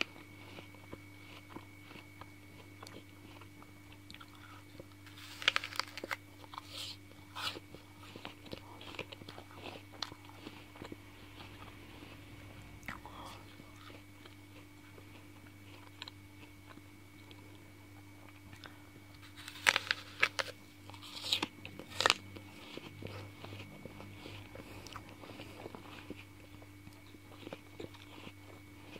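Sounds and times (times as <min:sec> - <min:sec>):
crunching into an apple: 0:00.0 - 0:28.9
faint steady hum: 0:00.0 - 0:28.9
quiet chewing: 0:00.0 - 0:28.9.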